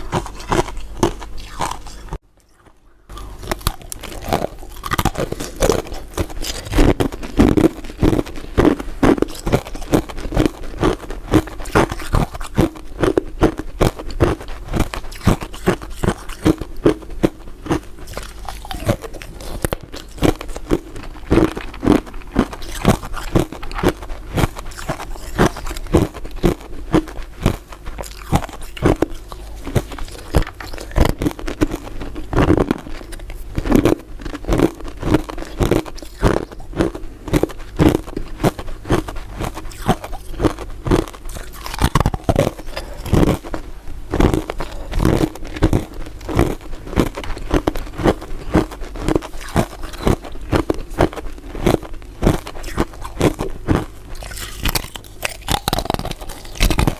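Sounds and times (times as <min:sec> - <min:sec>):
person chewing crunchy ice dessert: 0:00.0 - 0:56.9.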